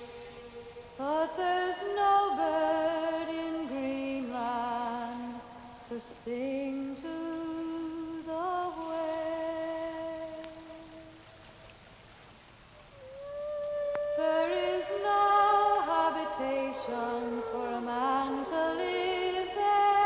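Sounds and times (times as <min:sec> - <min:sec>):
woman singing slow ballad: 0:00.0 - 0:11.2, 0:13.1 - 0:20.0.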